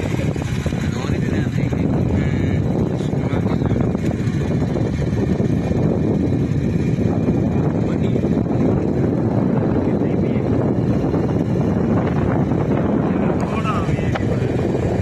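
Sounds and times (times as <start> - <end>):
vehicle rumbling on road: 0.0 - 15.0
wind buffeting microphone: 0.0 - 15.0.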